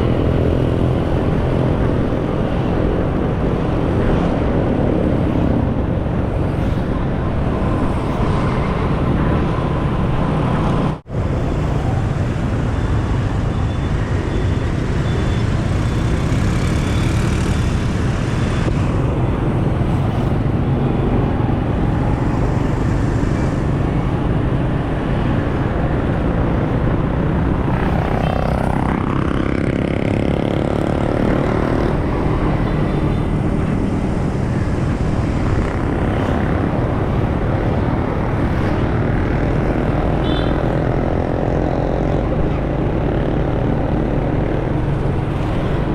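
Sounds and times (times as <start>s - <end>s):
motorcycle engine and wind noise: 0.0s - 45.9s.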